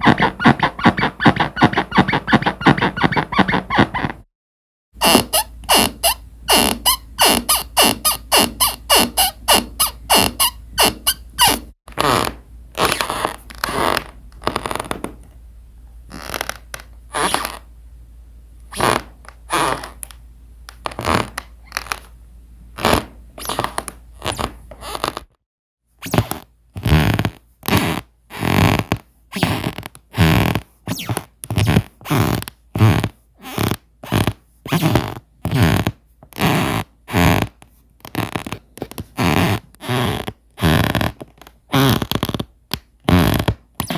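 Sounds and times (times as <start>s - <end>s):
floorboards squeaking and creaking: 0.0s - 4.3s, 5.0s - 15.3s, 16.1s - 17.7s, 18.7s - 22.2s, 22.8s - 25.4s, 26.0s - 43.9s.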